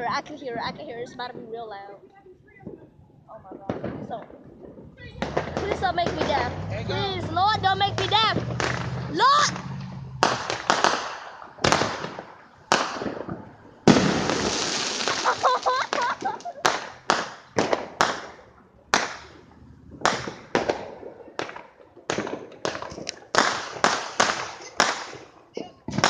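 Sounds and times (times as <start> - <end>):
fireworks crackling: 0.0 - 26.0
fireworks bangs: 2.5 - 26.0.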